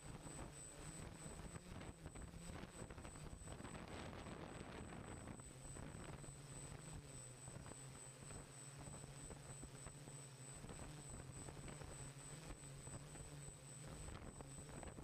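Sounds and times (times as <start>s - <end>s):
faint hum and hiss: 0.0s - 15.0s
thin high whine: 0.0s - 15.0s.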